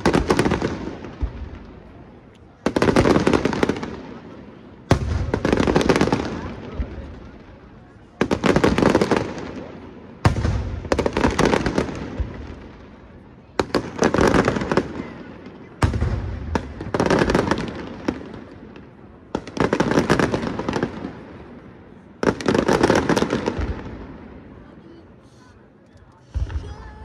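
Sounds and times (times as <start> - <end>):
fireworks bangs: 0.0 - 24.7, 26.3 - 27.0
fireworks crackle: 0.0 - 27.0.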